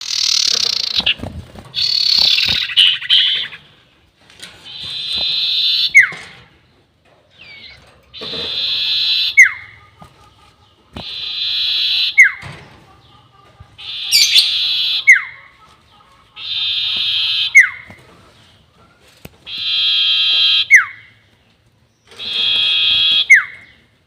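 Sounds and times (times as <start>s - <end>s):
bird song with buzzy trills: 0.0s - 3.7s, 4.6s - 18.5s, 19.5s - 24.0s.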